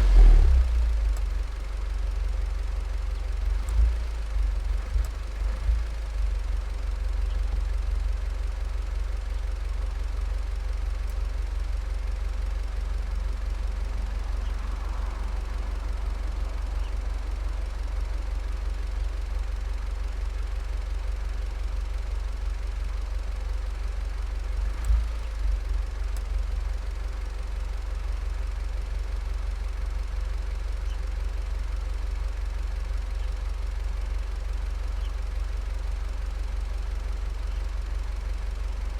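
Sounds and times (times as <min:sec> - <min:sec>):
car engine rumbling: 0:00.0 - 0:38.9.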